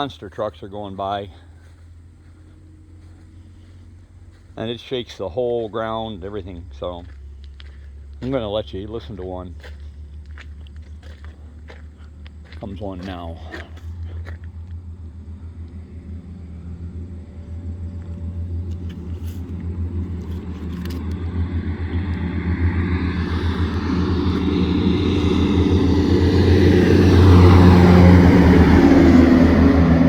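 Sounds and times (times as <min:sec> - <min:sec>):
road noise: 0:00.0 - 0:30.0
truck engine rumble: 0:00.0 - 0:30.0.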